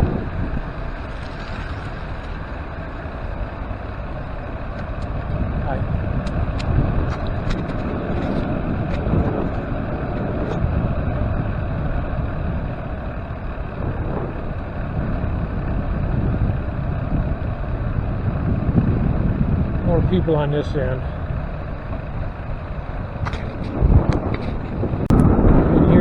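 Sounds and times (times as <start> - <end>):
bicycle tyre and frame noise: 0.0 - 26.0
wind on microphone: 0.0 - 26.0.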